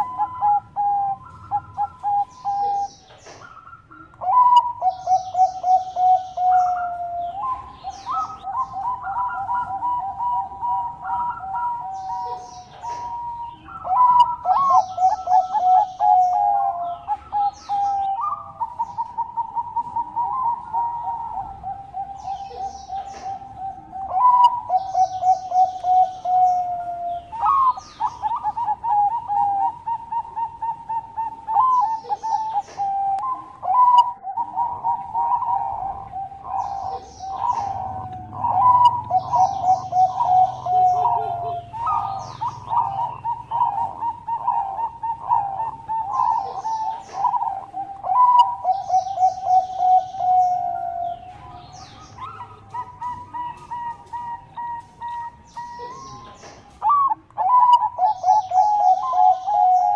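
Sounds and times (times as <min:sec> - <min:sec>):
dove cooing: 0:00.0 - 0:59.9
high bird chirps: 0:00.0 - 0:59.9.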